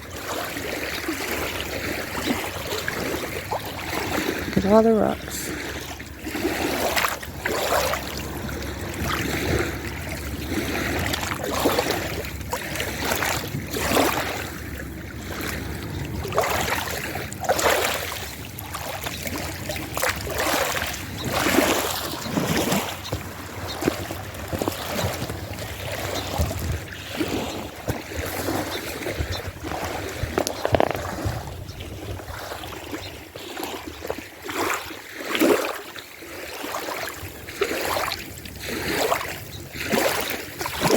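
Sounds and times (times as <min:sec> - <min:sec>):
small waves lapping on rocks: 0:00.0 - 0:40.9.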